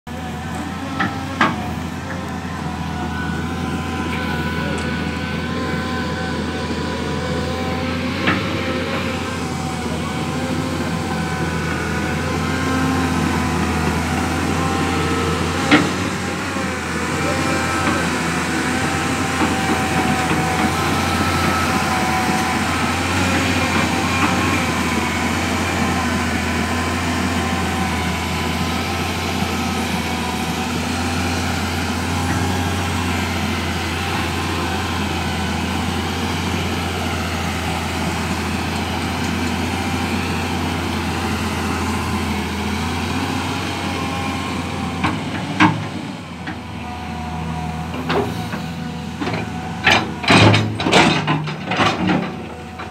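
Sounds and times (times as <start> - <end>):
excavator diesel engine running: 0.1 - 52.9.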